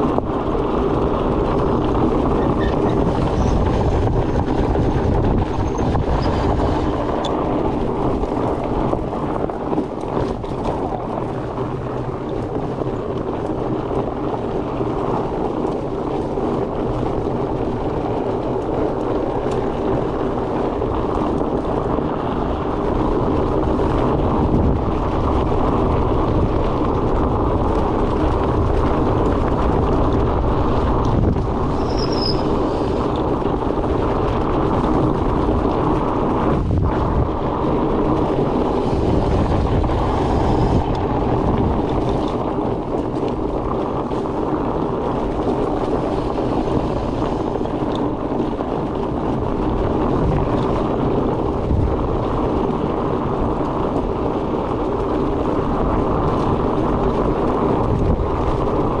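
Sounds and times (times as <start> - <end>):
bike tyres rumbling on trail: 0.0 - 59.0
wind rush on microphone: 0.0 - 59.0.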